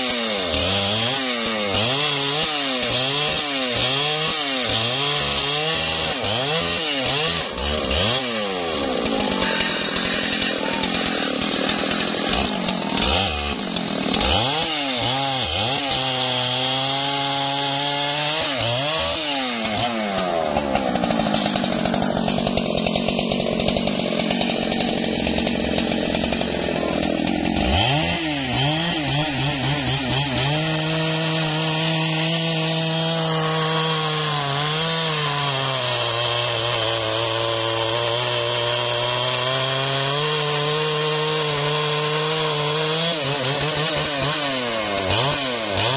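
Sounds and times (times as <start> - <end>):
chainsaw cutting through trunk: 0.0 - 45.9.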